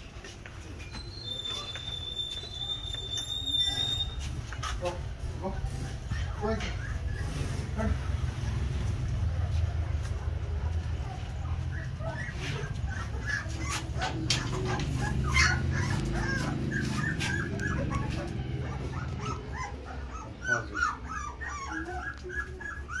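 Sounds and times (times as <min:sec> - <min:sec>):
puppies whimpering and squeaking: 0:00.0 - 0:23.0.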